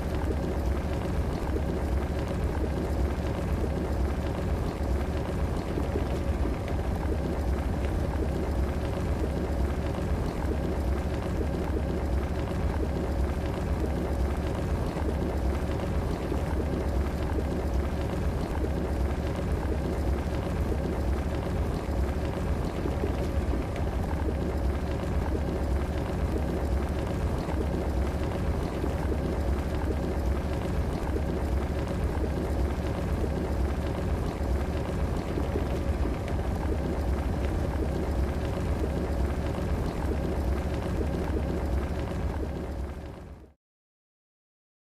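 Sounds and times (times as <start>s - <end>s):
faint steady hum: 0.0s - 43.6s.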